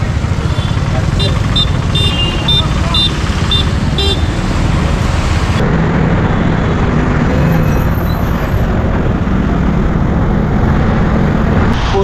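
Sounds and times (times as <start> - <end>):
road and traffic noise: 0.0 - 12.0
vehicle engine drone: 0.0 - 12.0.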